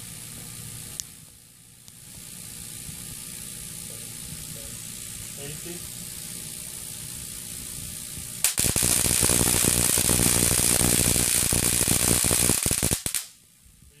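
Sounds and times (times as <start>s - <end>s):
electric arc crackling buzz: 0.0s - 14.0s.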